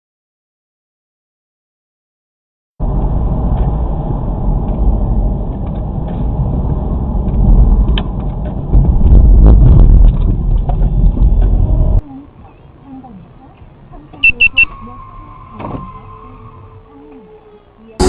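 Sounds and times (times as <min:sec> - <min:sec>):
vehicle rumble and road noise: 0:02.8 - 0:18.0.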